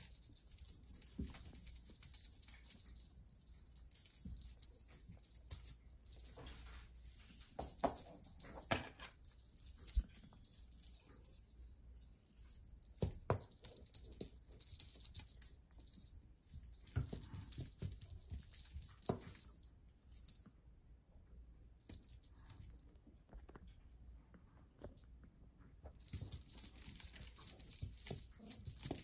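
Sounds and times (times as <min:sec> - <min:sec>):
small bell jingling: 0:00.0 - 0:20.5, 0:21.8 - 0:23.0, 0:25.9 - 0:29.0.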